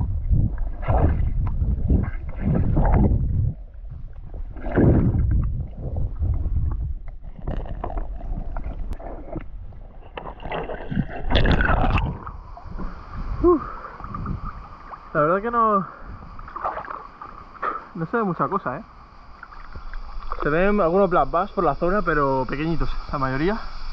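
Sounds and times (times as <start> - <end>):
water splashing: 0.0 - 22.1
muffled underwater water sloshing: 0.0 - 23.0.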